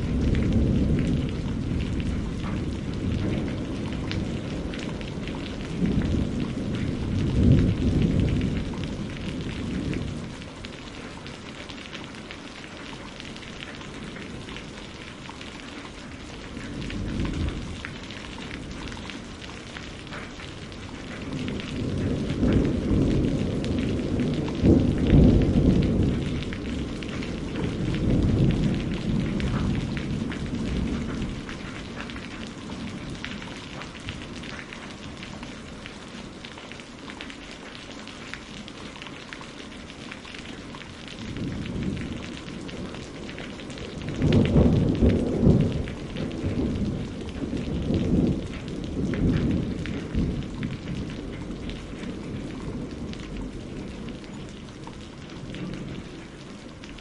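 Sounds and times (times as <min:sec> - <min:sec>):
thunder rumbling: 0:00.0 - 0:12.0, 0:13.4 - 0:36.5, 0:40.5 - 0:57.0
rain pattering: 0:00.0 - 0:57.0.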